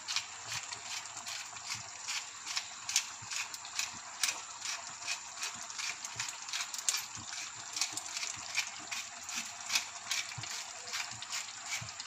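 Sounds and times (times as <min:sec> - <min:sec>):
pepper mill grinding peppercorns: 0:00.0 - 0:11.9.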